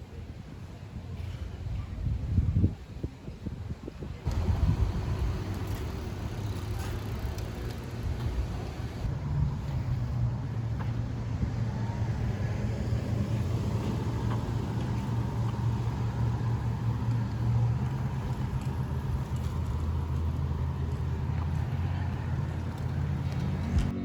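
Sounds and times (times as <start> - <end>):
road or wind noise: 0.0 - 24.0
vehicle engine droning: 4.2 - 24.0.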